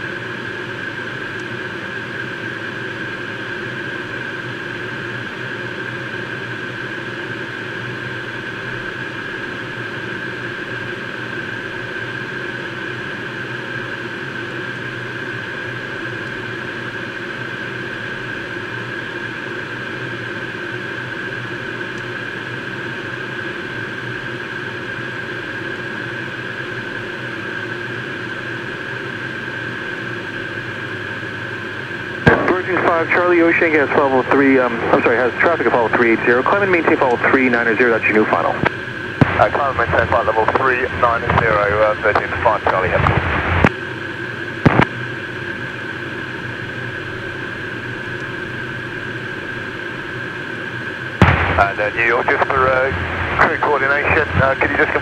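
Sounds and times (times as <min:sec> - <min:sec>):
jet engine hum: 0:00.0 - 0:55.0.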